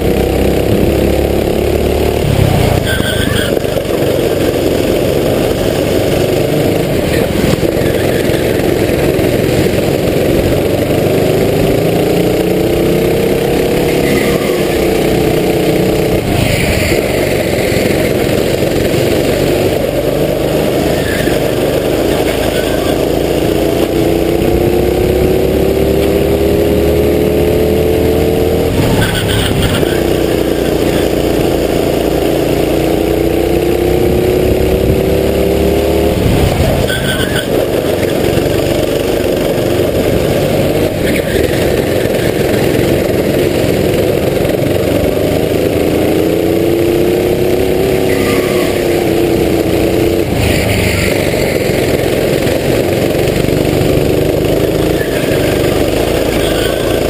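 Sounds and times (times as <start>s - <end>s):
kart engine revving: 0.0s - 57.0s
wind and road noise: 0.0s - 57.0s.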